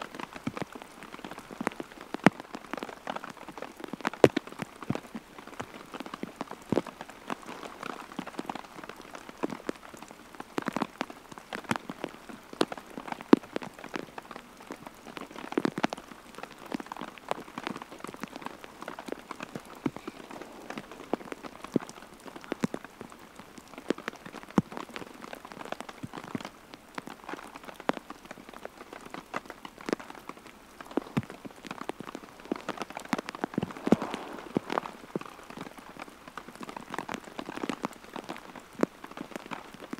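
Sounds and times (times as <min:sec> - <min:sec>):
rain falling: 0:00.0 - 0:39.9
raindrops tapping on surface: 0:00.0 - 0:39.9.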